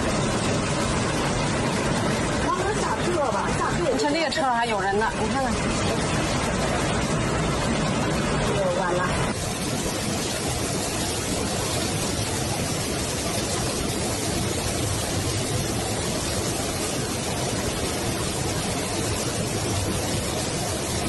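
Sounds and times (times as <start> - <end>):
floodwater rushing: 0.0 - 21.0
heavy rain: 0.0 - 21.0.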